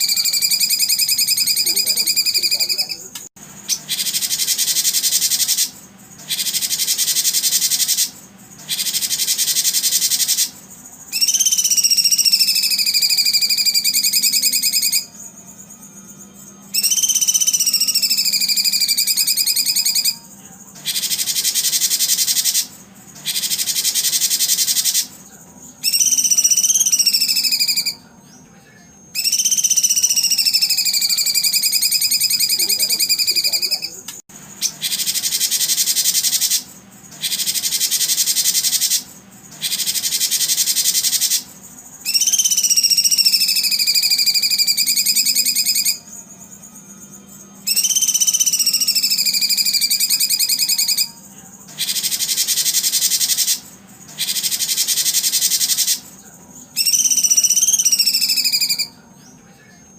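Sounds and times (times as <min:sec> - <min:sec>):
whistled bird call: 0:00.0 - 0:03.0, 0:03.6 - 0:15.3, 0:16.7 - 0:25.2, 0:25.8 - 0:28.1, 0:29.2 - 0:34.0, 0:34.6 - 0:46.2, 0:47.6 - 0:51.2, 0:51.8 - 0:56.1, 0:56.7 - 0:59.0
high pulsed bird trill: 0:00.0 - 0:59.9.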